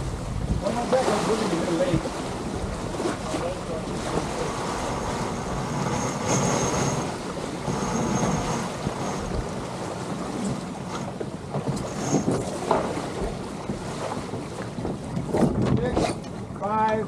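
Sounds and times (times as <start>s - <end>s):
water rushing along hulls: 0.0s - 17.0s
wind buffeting microphone: 0.0s - 17.0s.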